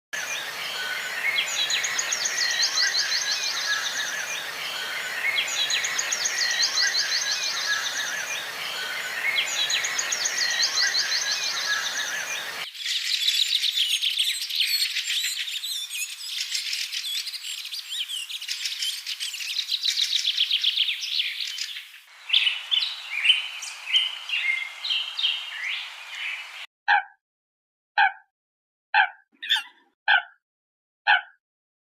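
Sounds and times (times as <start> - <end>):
birds chirping: 0.2 - 26.7, 29.0 - 29.8
scattered bird calls: 0.2 - 26.7, 29.0 - 29.9
bird song with fast trill: 0.3 - 25.8, 29.4 - 29.8.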